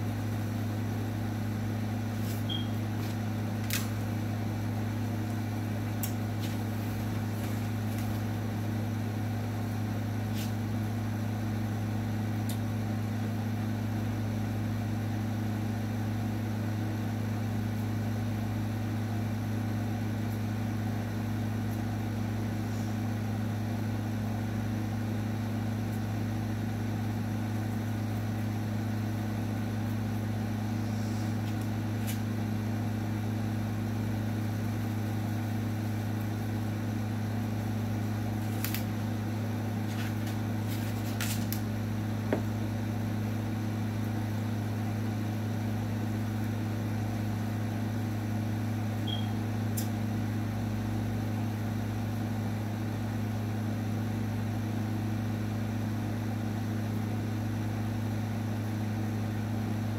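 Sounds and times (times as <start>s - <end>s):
low motor hum: 0.0s - 59.9s.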